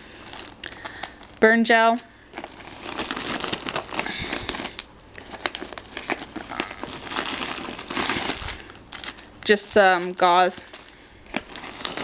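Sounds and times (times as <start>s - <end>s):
plastic packets crinkling: 0.0s - 12.0s
nylon pouch rustling: 2.3s - 12.0s.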